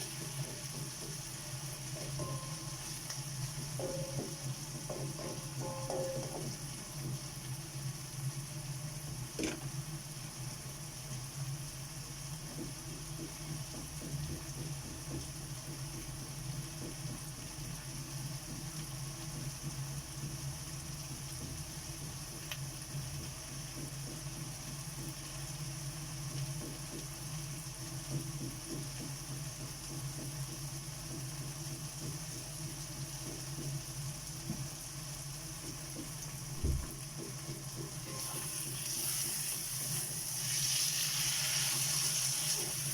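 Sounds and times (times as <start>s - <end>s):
food simmering in a pot: 0.0s - 42.9s.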